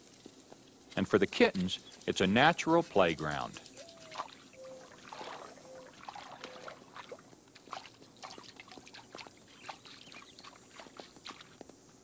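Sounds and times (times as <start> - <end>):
water splashing and dripping: 0.0 - 11.7.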